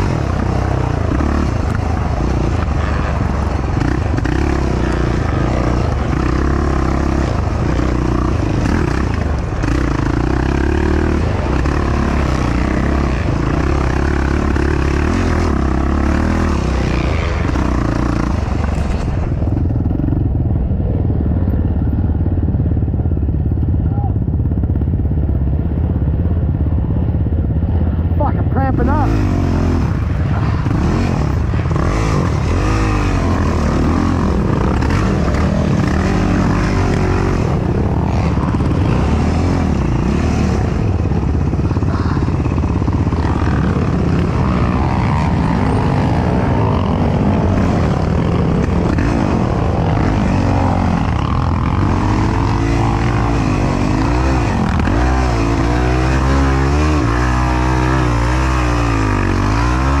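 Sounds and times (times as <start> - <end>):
quad engine revving: 0.0 - 19.3, 28.2 - 60.0.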